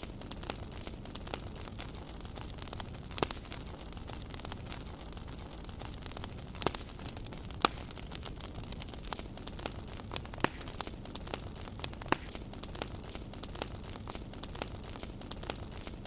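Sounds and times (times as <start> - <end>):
campfire crackling and popping: 0.0 - 16.0
low steady background noise: 0.0 - 16.0.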